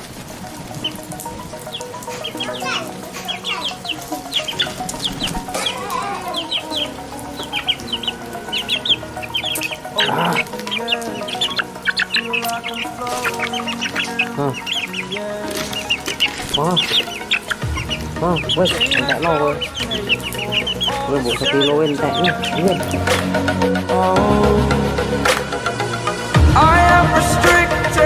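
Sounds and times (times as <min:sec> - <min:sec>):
bird clucking calls: 0:00.0 - 0:23.9
background music: 0:00.0 - 0:28.0
birds chirping: 0:00.0 - 0:28.0.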